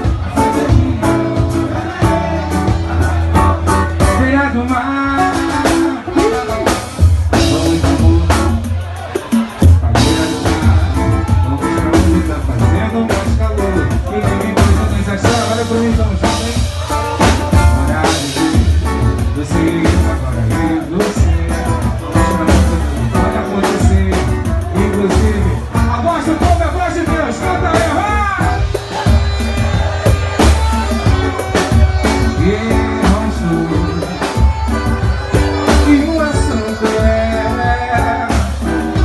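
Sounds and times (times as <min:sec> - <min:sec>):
live band playing: 0:00.0 - 0:39.0
person singing: 0:00.0 - 0:39.0.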